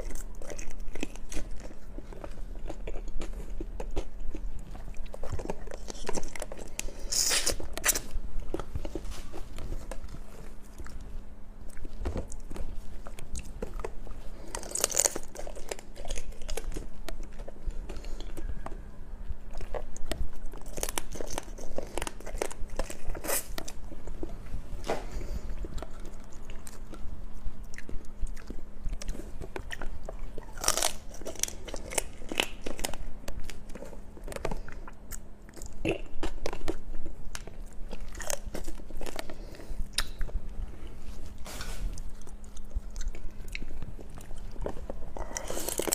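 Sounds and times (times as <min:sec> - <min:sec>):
person chewing crunchy food: 0:00.0 - 0:45.9.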